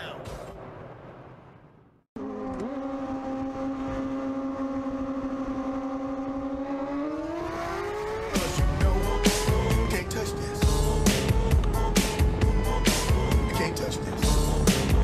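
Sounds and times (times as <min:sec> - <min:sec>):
car engine accelerating: 0:02.2 - 0:15.0.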